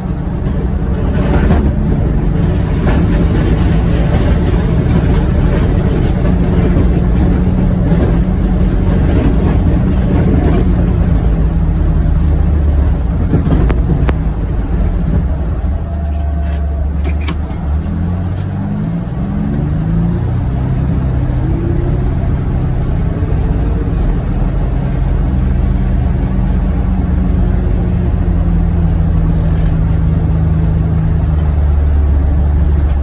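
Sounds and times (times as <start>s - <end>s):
utility vehicle engine driving: 0.0s - 33.0s.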